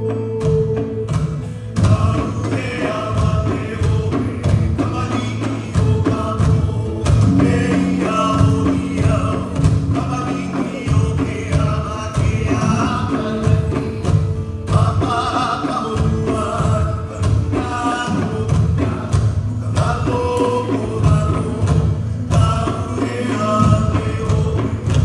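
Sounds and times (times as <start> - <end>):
singing over a steady beat: 0.0 - 25.0.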